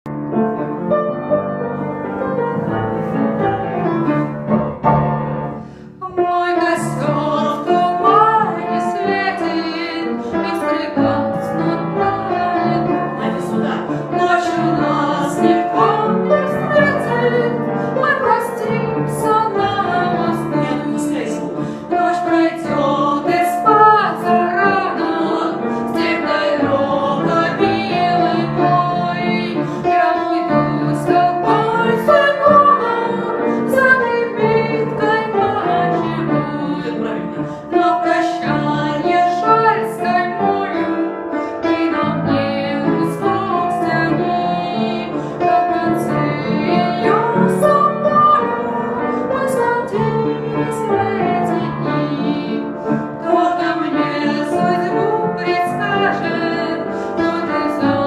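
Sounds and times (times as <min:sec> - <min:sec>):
piano music with melody: 0:00.0 - 0:58.0.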